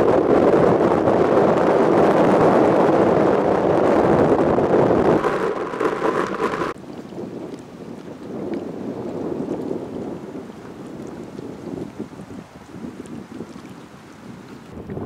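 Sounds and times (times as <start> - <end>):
faint wind: 0.0 - 15.0
wind buffeting microphone: 0.0 - 15.0.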